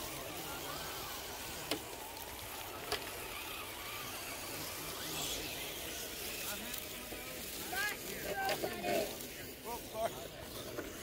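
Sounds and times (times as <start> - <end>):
toy trucks crawling over rock: 0.0 - 11.0.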